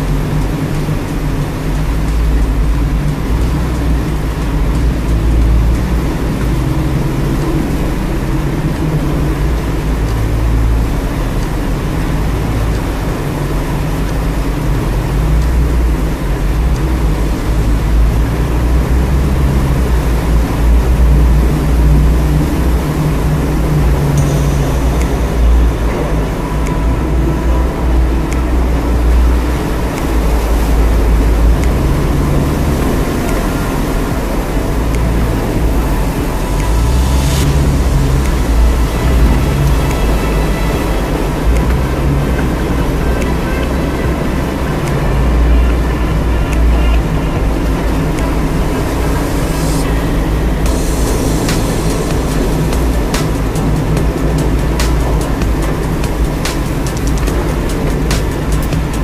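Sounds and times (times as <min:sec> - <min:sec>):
low rumble of engine and tyres: 0:00.0 - 0:59.0.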